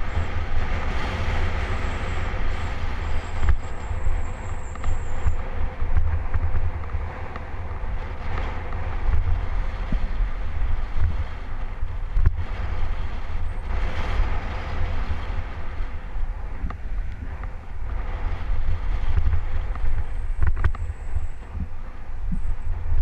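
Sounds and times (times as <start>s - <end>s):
tyre and road noise: 0.0s - 23.0s
wind buffeting microphone: 0.0s - 23.0s.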